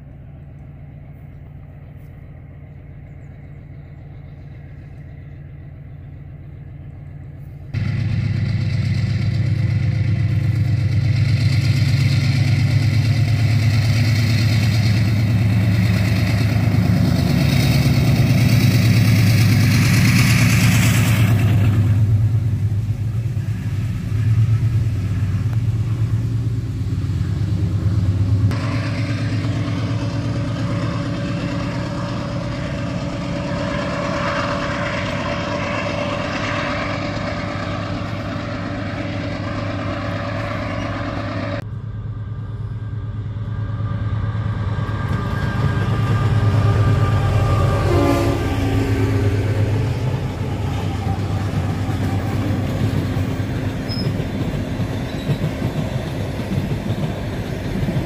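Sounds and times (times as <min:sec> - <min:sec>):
locomotive engine rumble: 0:00.0 - 0:58.0.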